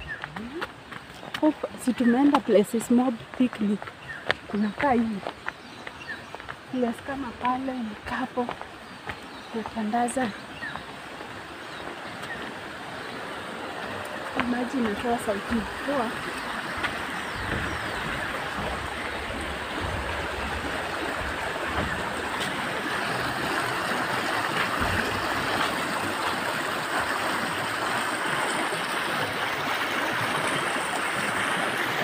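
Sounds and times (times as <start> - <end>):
stream water over rocks: 0.0 - 32.0.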